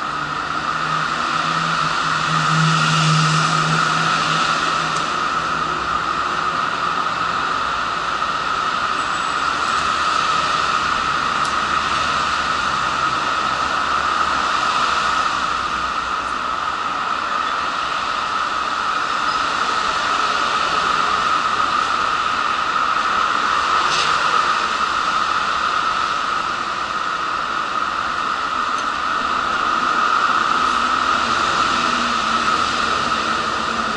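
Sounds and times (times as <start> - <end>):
steady outdoor hiss: 0.0 - 33.9.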